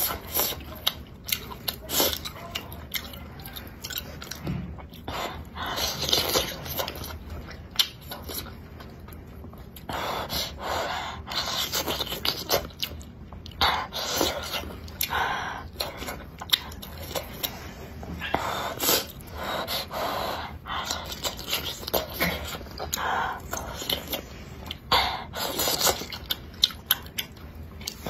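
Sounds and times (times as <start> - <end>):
chewing with mouth smacking: 0.0 - 28.0.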